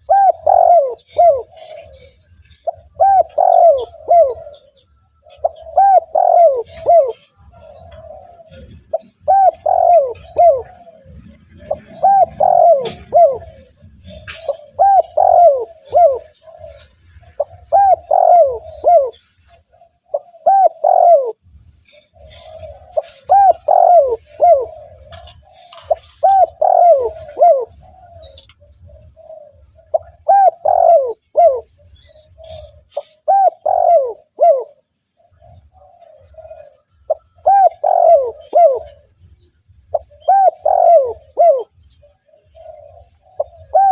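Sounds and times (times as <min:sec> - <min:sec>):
dove cooing: 0:00.0 - 0:43.9
faint small birds chirping: 0:00.0 - 0:43.9.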